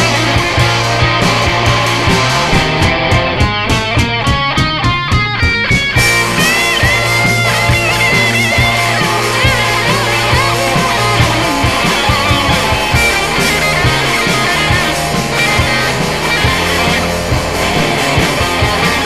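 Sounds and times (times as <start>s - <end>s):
bass: 0.0s - 19.0s
drums: 0.0s - 19.0s
lead electric guitar: 0.0s - 19.0s.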